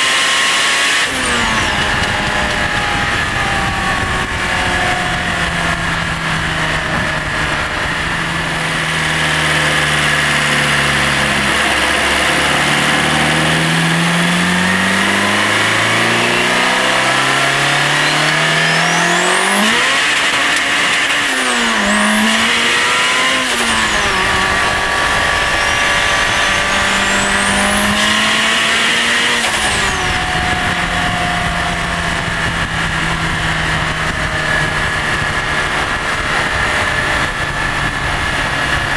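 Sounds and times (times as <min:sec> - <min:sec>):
car engine pulling hard: 0:00.0 - 0:38.9
turbo whine: 0:00.9 - 0:38.9.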